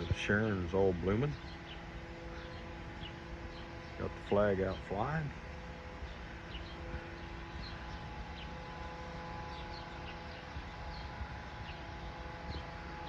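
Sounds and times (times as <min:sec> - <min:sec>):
faint steady hum: 0:00.0 - 0:13.0
small birds chirping: 0:00.0 - 0:13.0
steady low rumble: 0:00.0 - 0:13.0.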